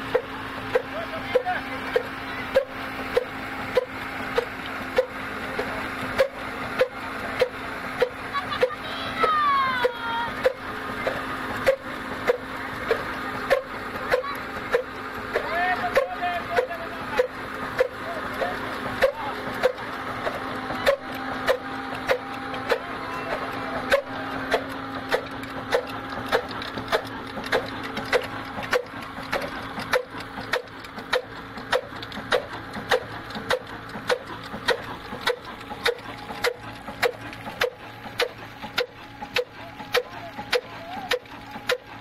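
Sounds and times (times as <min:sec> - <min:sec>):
slow-running oil engine beating: 0:00.0 - 0:42.0.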